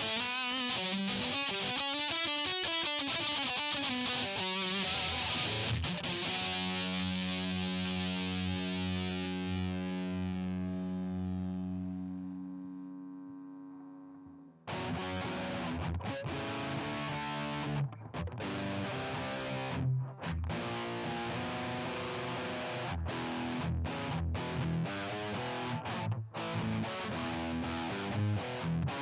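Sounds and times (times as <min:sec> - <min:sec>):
distorted electric guitar riff: 0:00.0 - 0:29.0
electric guitar chord ringing: 0:00.0 - 0:29.0.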